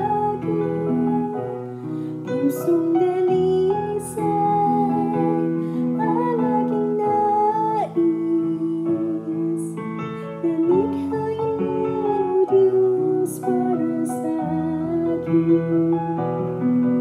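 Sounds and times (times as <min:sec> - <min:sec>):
woman singing: 0:00.0 - 0:01.6, 0:02.2 - 0:16.7
guitar and piano backing track: 0:00.0 - 0:17.0.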